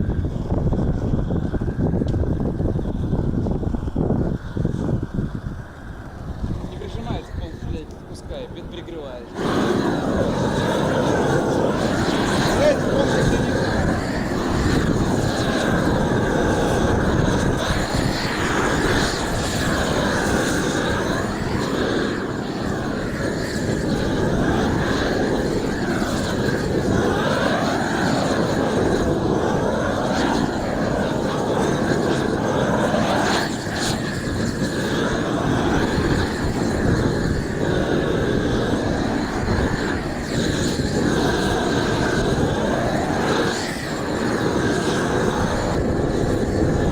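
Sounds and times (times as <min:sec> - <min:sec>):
propane torch burning: 0:00.0 - 0:46.9.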